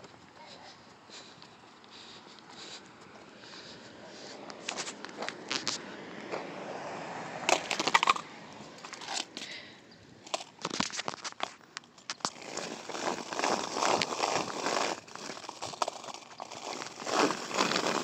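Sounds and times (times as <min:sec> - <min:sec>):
skateboard wheels rolling on asphalt: 0:02.6 - 0:18.0.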